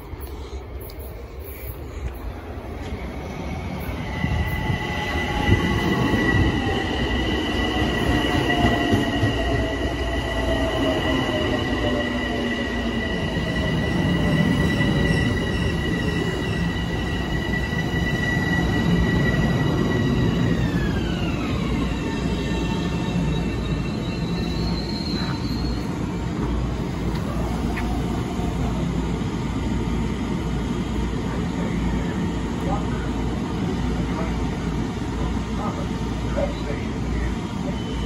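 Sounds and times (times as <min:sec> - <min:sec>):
electric train high whine: 0:00.0 - 0:38.0
wheels rumbling on rail: 0:00.0 - 0:38.0.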